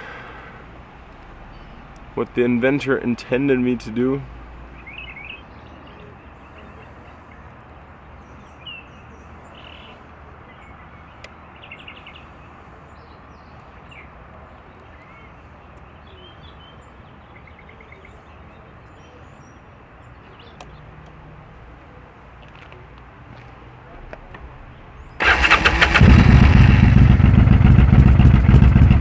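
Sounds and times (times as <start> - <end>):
small birds chirping: 0.0 - 27.1
outdoor background hiss: 0.0 - 29.0.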